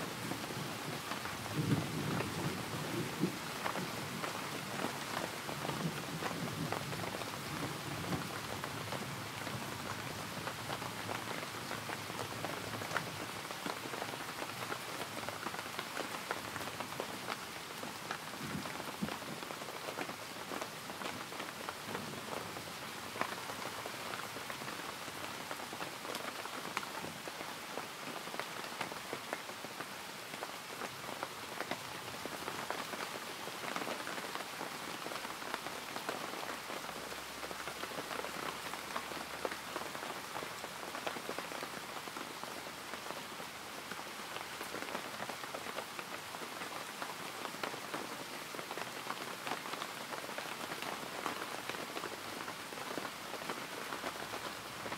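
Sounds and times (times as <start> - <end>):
rain falling steadily: 0.0 - 54.9.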